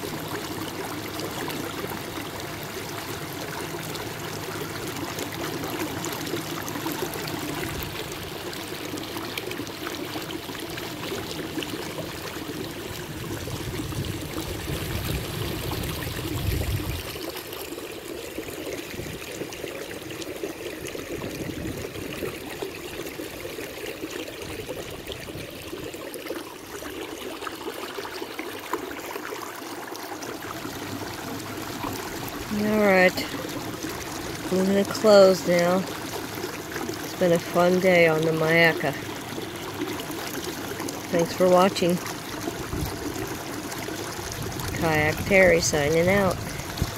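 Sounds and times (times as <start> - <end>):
water lapping along hull: 0.0 - 46.9.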